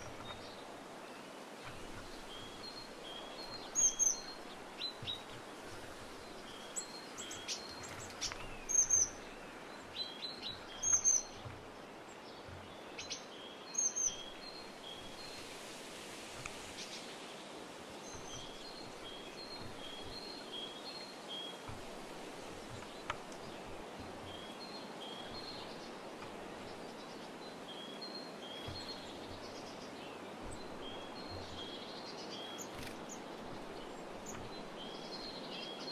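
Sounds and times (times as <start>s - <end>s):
outdoor background hiss: 0.0s - 35.9s.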